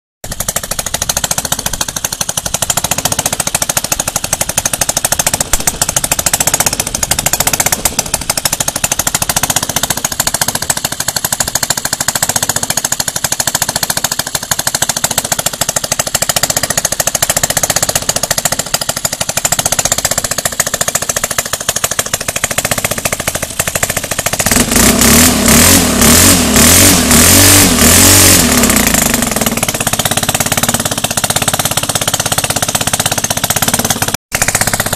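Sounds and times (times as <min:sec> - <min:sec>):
small engine spinning propeller: 0:00.2 - 0:34.9.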